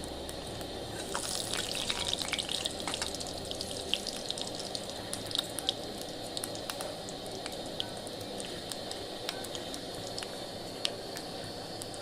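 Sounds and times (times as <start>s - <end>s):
food sizzling in hot oil: 0.0s - 12.0s
oil crackles and pops: 0.0s - 12.0s.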